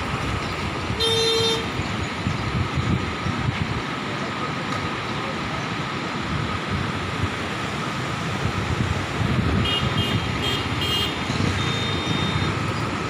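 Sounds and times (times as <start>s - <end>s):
floodwater rushing through dam gates: 0.0s - 13.0s.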